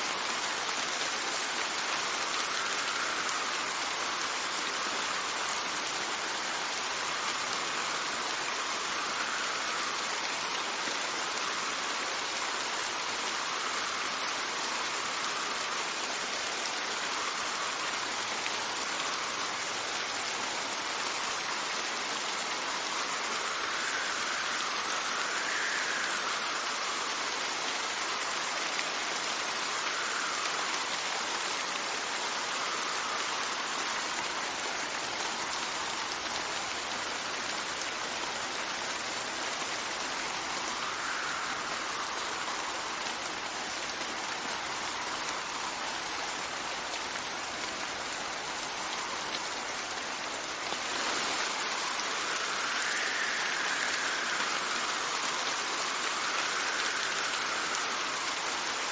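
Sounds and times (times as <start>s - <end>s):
steady rain falling: 0.0s - 58.9s
wind gusts: 0.0s - 58.9s.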